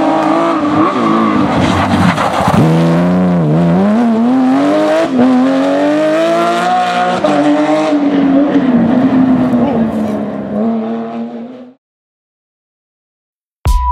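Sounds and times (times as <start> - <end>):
car engine at high revs: 0.0 - 11.8.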